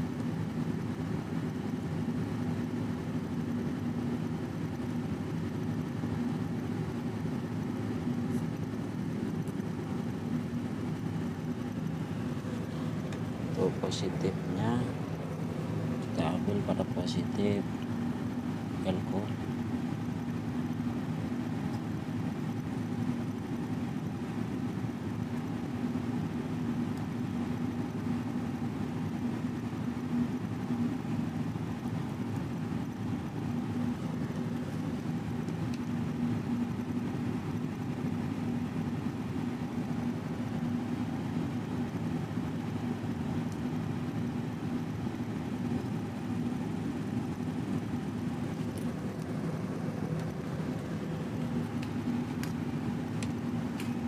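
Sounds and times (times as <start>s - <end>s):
constant pitched hum: 0.0s - 54.0s
low mechanical drone: 0.0s - 54.0s.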